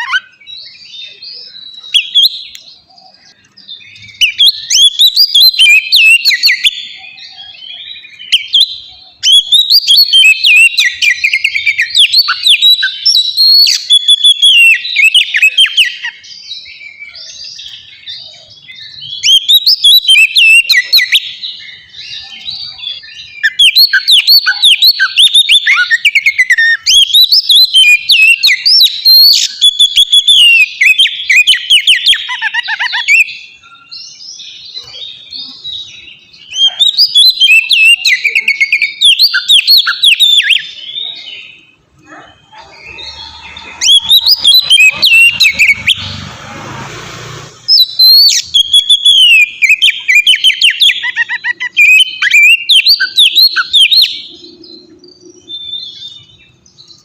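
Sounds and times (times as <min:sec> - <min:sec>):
bird song whistles and chirps: 0:00.0 - 0:57.0.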